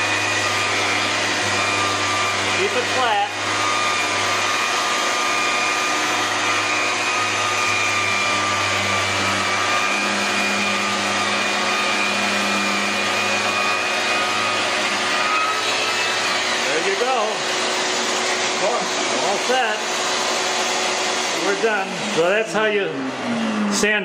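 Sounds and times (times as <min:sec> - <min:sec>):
drywall sander running: 0:00.0 - 0:24.0
dust vacuum whine: 0:00.0 - 0:24.0.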